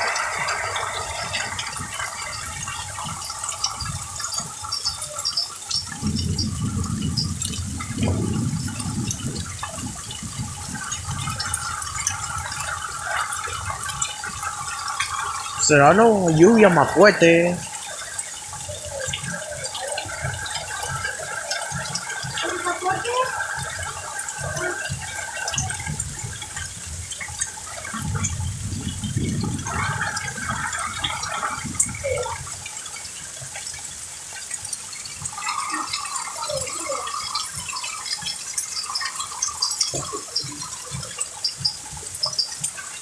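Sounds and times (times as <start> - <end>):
heavy rain pouring: 0.0 - 41.7
water running and splashing: 0.0 - 43.0.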